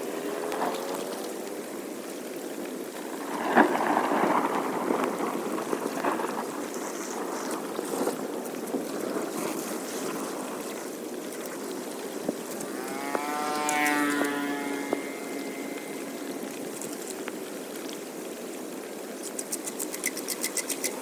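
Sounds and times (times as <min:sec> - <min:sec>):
water rushing into storm drain: 0:00.0 - 0:21.0.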